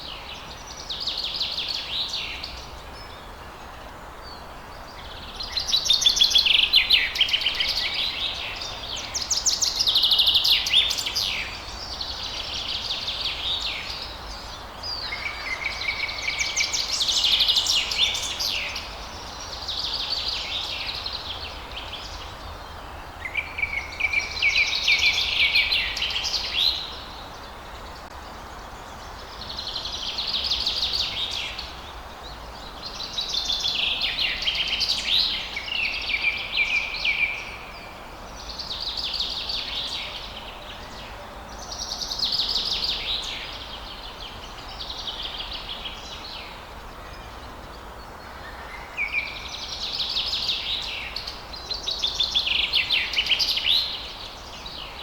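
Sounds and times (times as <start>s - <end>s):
background hiss: 0.0s - 55.0s
songbirds singing: 0.0s - 55.0s.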